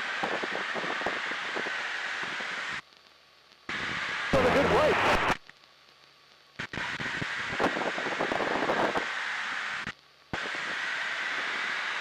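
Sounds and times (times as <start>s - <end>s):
radio hiss with crackle: 0.0s - 12.0s.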